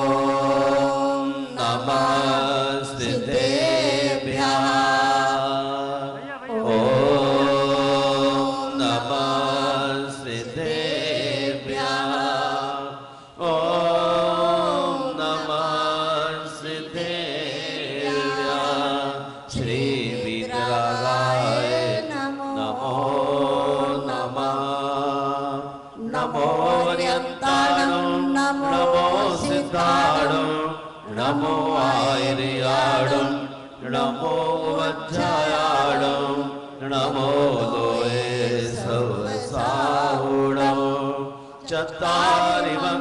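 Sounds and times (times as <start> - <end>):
devotional chanting: 0.0 - 43.0.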